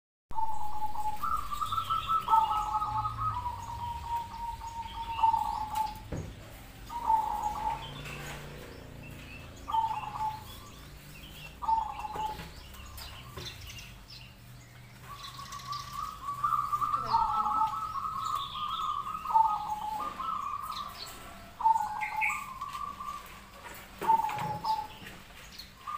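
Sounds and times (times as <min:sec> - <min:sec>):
doves cooing: 0:00.3 - 0:25.9.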